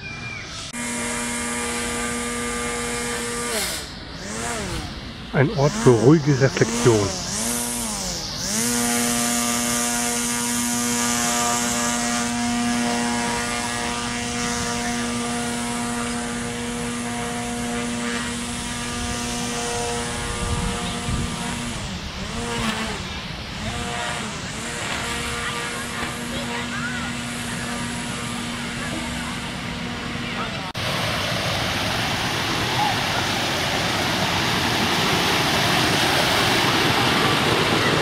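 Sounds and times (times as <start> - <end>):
small two-stroke engine revving: 0.6 - 38.0.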